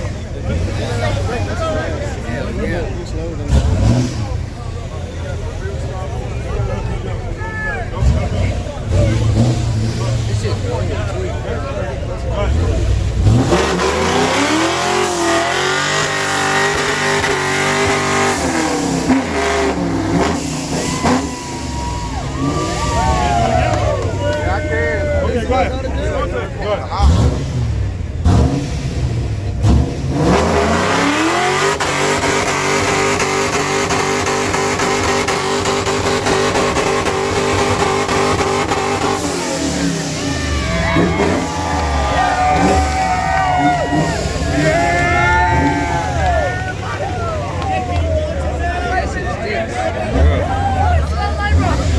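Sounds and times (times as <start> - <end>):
car engine revving hard: 0.0 - 6.9, 7.8 - 51.9.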